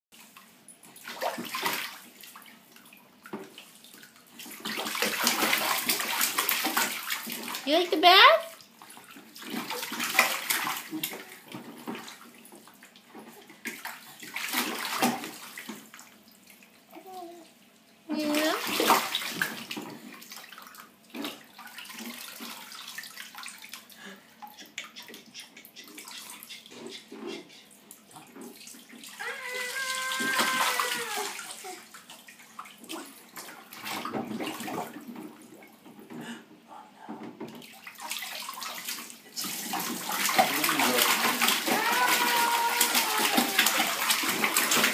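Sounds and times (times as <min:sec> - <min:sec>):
water splashing in baby bathtub: 0:00.2 - 0:36.5, 0:37.2 - 0:44.9.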